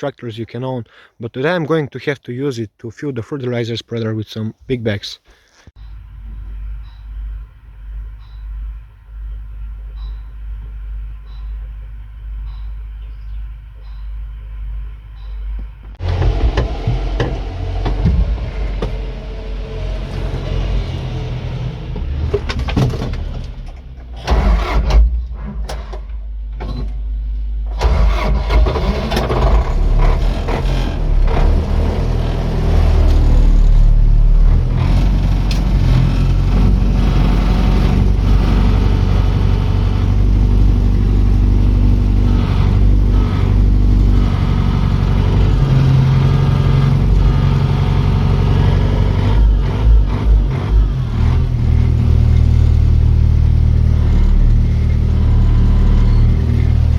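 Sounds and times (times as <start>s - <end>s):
tractor engine running: 5.7s - 56.9s.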